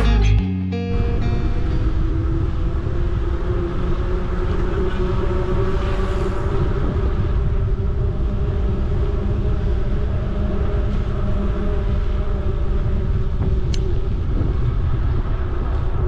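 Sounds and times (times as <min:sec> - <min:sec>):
wind buffeting microphone: 0:01.0 - 0:16.0
bicycle rolling on asphalt: 0:02.0 - 0:16.0.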